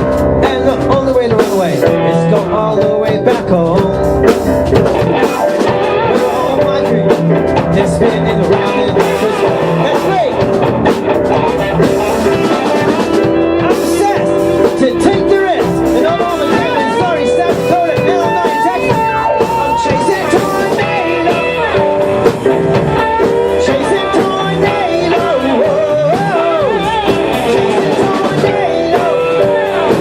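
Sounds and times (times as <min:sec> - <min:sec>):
drum kit: 0:00.0 - 0:30.0
rock guitar with bending notes: 0:00.0 - 0:30.0.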